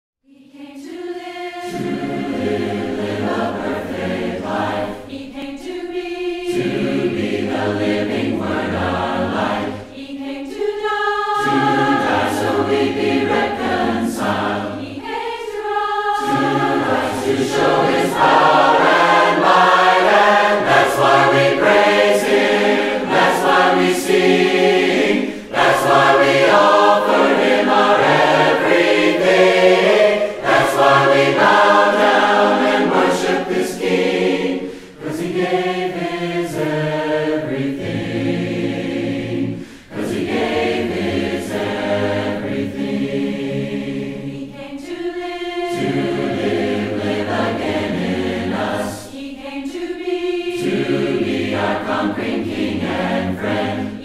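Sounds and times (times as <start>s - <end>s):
vocal ensemble singing in harmony: 0.3s - 54.0s.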